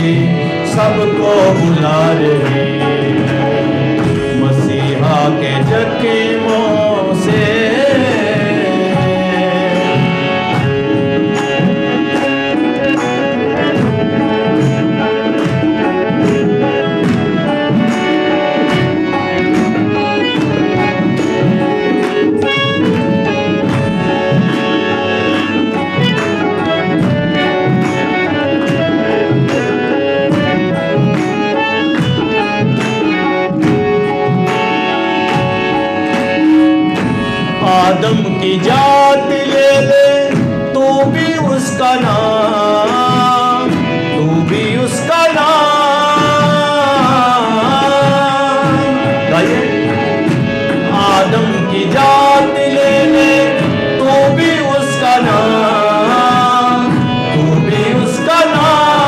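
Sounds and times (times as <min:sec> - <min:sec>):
drum beat: 0:00.0 - 0:59.0
melody instruments holding notes: 0:00.0 - 0:59.0.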